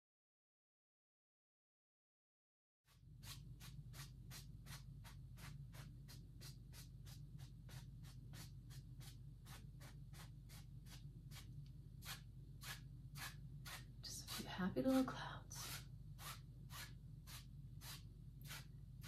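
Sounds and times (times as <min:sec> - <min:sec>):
paintbrush swishing on canvas: 0:02.9 - 0:18.8
low steady hum: 0:03.0 - 0:19.0.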